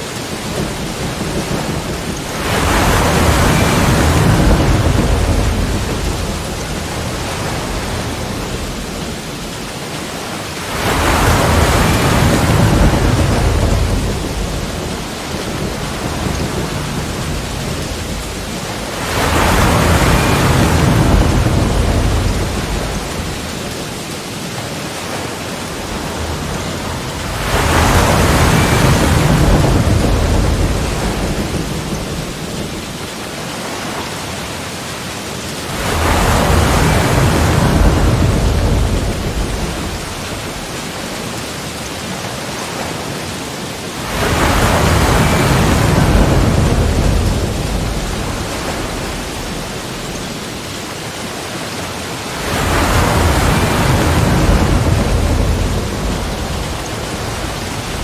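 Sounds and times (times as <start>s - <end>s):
surf hiss: 0.0s - 58.0s
waves breaking against rocks: 0.0s - 58.0s.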